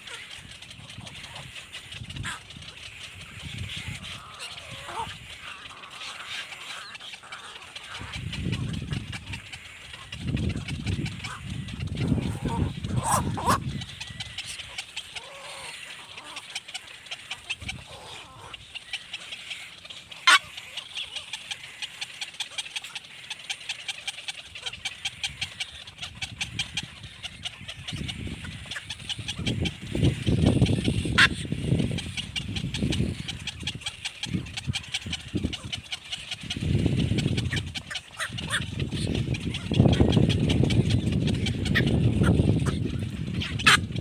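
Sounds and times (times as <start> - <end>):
baby birds cheeping: 0.0 - 44.0
lower bird calls: 0.0 - 44.0.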